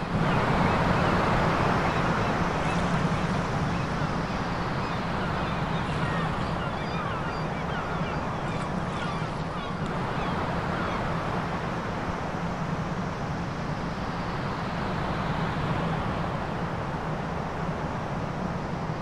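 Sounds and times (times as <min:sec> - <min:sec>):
surf and wind: 0:00.0 - 0:19.0.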